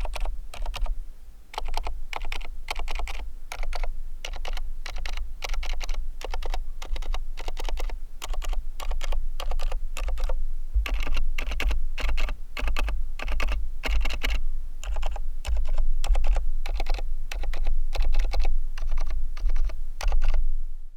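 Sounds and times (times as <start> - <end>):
mechanical keyboard typing: 0.0 - 0.9, 1.5 - 20.4.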